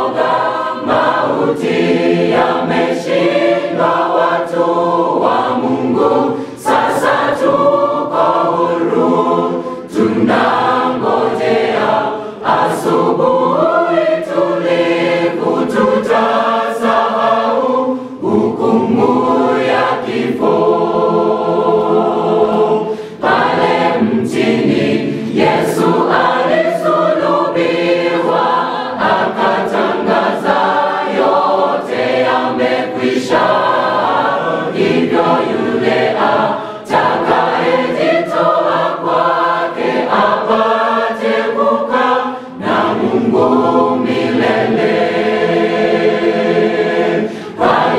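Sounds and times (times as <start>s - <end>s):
mixed choir singing a hymn: 0.0s - 47.9s.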